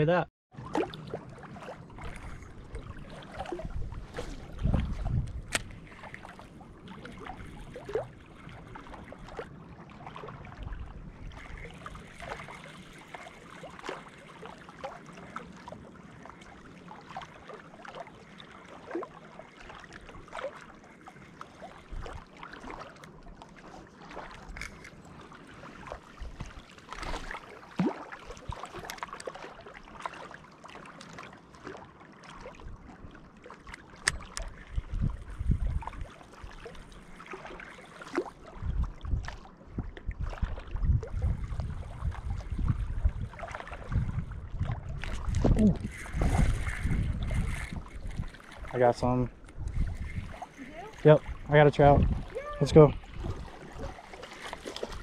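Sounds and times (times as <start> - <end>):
small waves lapping on rocks: 0.1 - 55.0.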